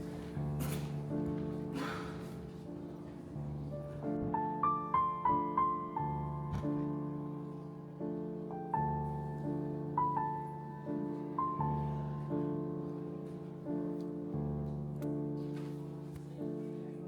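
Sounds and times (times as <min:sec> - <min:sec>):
slow gentle piano: 0:00.0 - 0:17.0.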